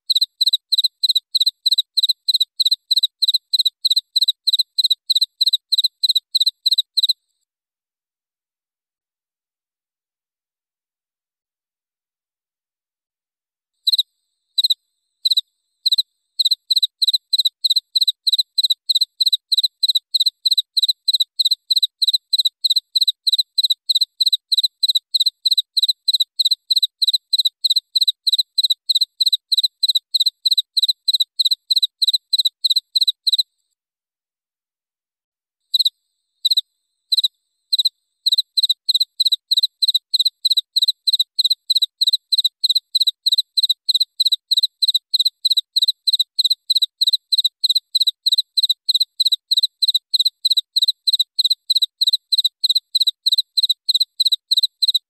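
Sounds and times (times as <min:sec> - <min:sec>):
cricket chirping: 0:00.1 - 0:07.2, 0:13.8 - 0:33.4, 0:35.7 - 0:55.0.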